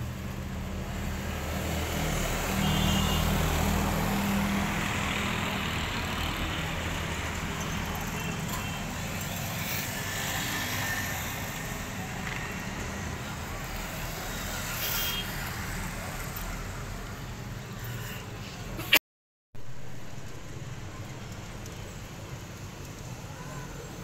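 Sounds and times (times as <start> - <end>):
traffic rumble: 0.0 - 19.0, 19.6 - 24.0.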